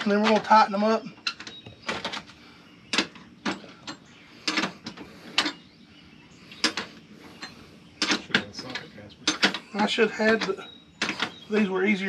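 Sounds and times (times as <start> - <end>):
bolts clicking and knocking: 0.0 - 5.6, 6.5 - 11.8.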